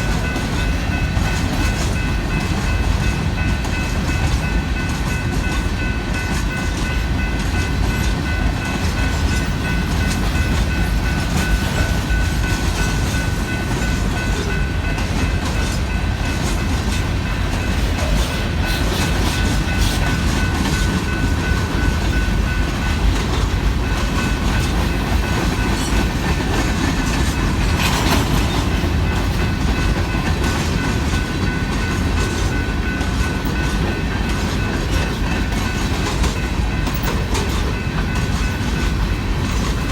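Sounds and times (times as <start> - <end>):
freight train rumbling past: 0.0 - 39.9
wheels clacking over rails: 0.0 - 39.9.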